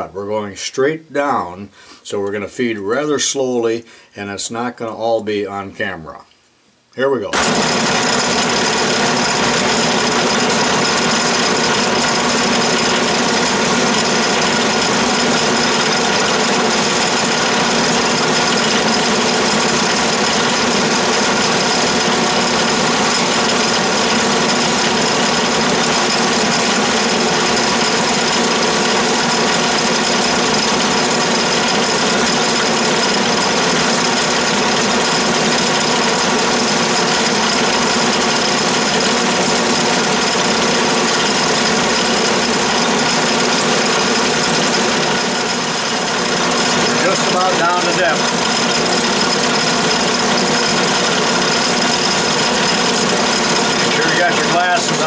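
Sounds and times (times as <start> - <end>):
lathe running: 7.4 - 55.0.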